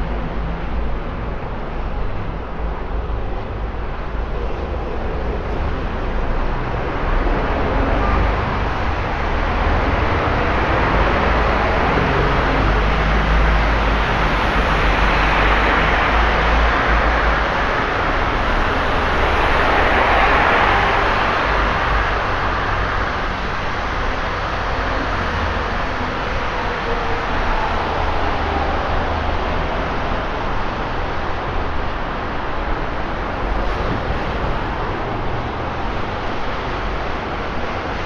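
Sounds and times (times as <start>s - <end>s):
low rumble of engines: 0.0s - 38.0s
vehicles swishing past: 3.4s - 38.0s
tyres hissing on wet road: 6.0s - 38.0s.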